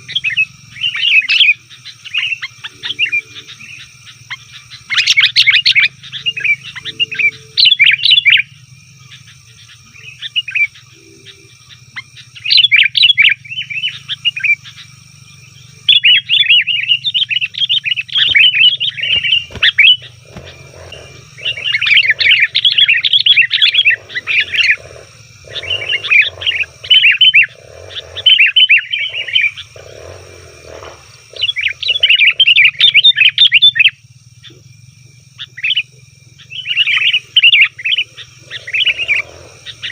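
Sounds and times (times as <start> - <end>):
bulbuls chattering calls: 0.0 - 39.9.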